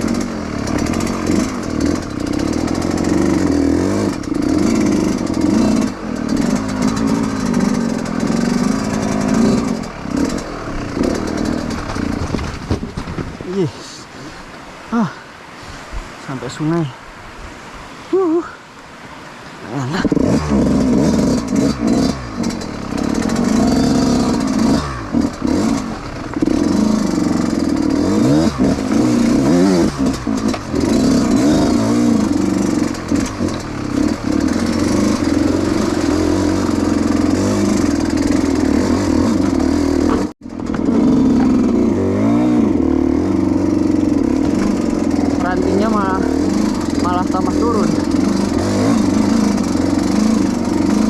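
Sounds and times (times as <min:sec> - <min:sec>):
dirt bike engine revving: 0:00.0 - 0:14.1, 0:19.7 - 0:51.0.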